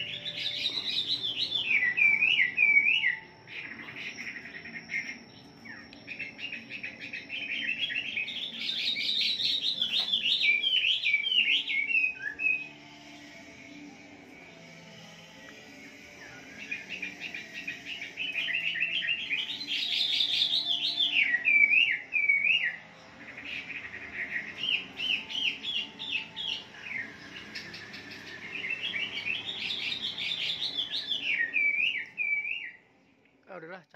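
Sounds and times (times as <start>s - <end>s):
bird singing whistled notes: 0.0s - 13.0s, 14.5s - 32.9s.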